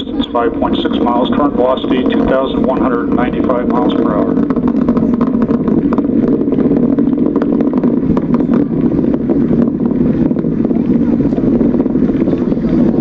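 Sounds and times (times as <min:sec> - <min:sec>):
distant rocket engine roar: 0:00.0 - 0:13.0.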